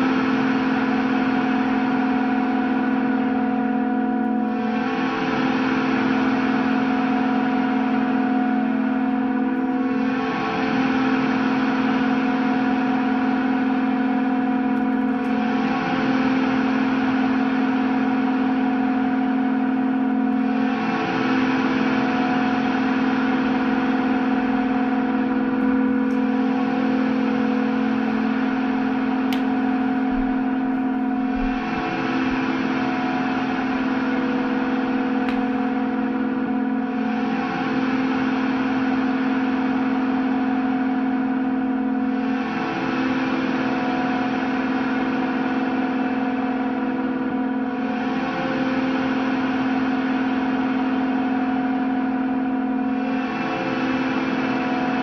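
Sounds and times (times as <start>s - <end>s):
electric guitar noise drone: 0.0s - 55.0s.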